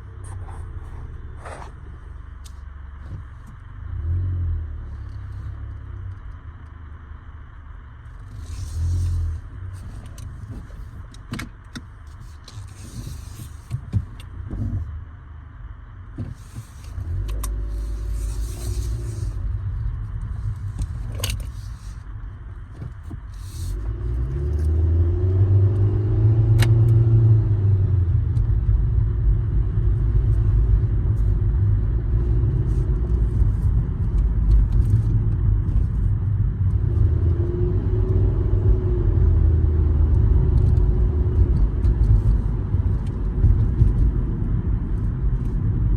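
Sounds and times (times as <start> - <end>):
car rumble: 0.0 - 45.9.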